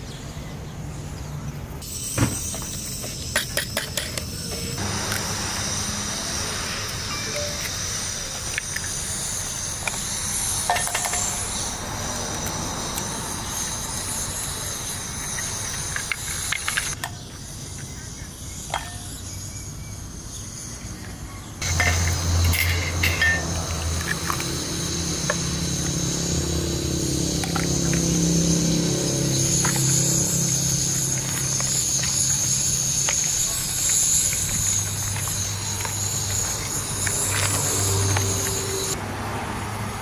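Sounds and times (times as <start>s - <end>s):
high outdoor hiss: 0.0s - 40.0s.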